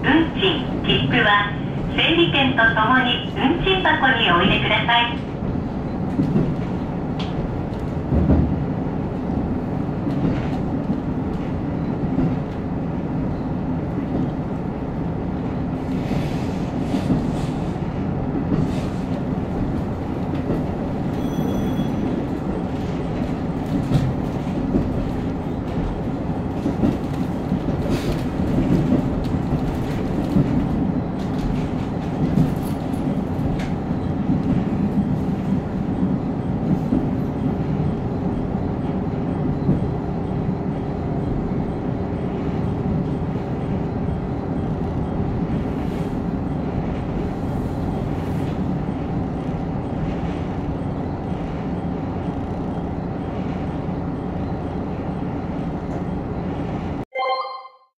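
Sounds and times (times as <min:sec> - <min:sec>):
train rumbling on track: 0:00.0 - 0:57.1.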